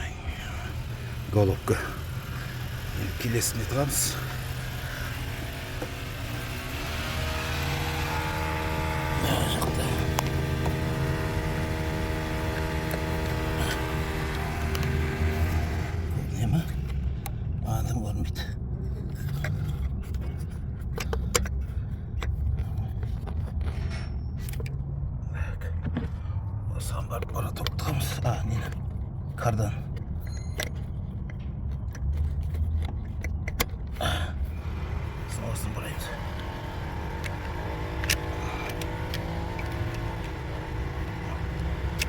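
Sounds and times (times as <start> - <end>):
steady low rumble: 0.0 - 36.2
low mechanical hum: 0.0 - 42.0.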